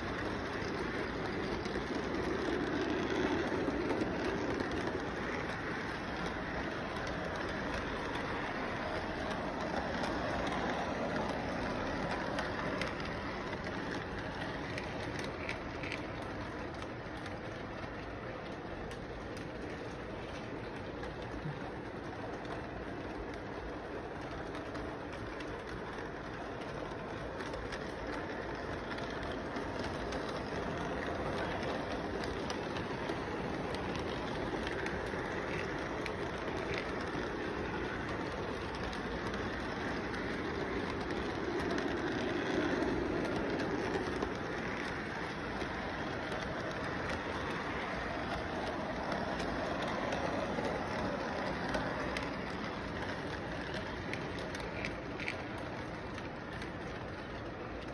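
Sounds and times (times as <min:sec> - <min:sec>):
model train rumbling on track: 0:00.0 - 0:57.9.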